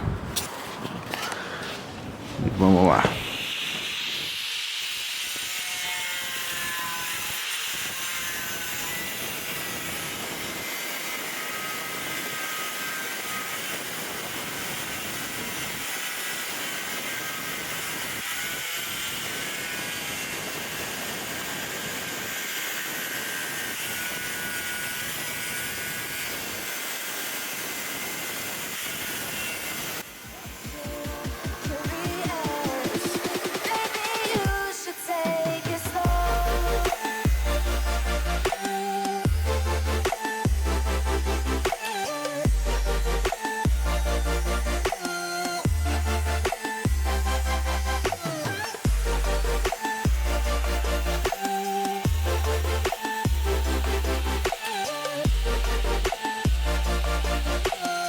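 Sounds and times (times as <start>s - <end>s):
angle grinder cutting tile: 2.7s - 58.0s.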